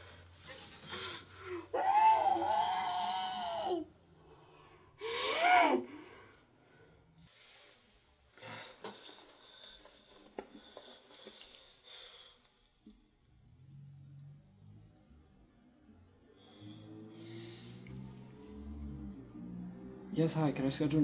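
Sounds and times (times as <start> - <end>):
quiet breaths: 0.0 - 1.7, 4.0 - 20.1.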